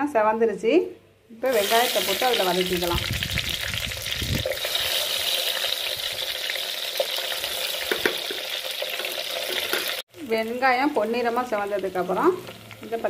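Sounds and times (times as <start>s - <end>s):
onions sizzling in hot oil: 1.5s - 13.0s.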